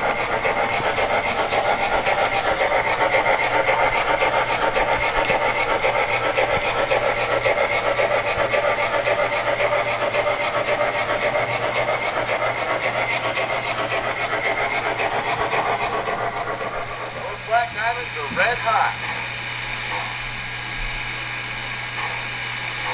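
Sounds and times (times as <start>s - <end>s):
model train steam chuffs: 0.0s - 22.9s.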